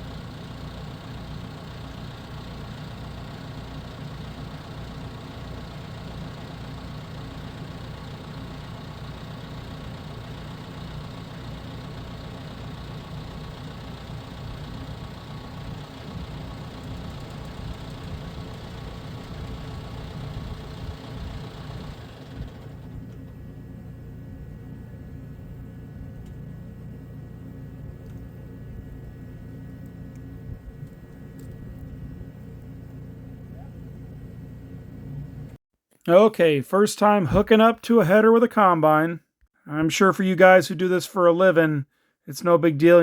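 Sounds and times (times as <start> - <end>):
heavy engine idling: 0.0 - 35.6.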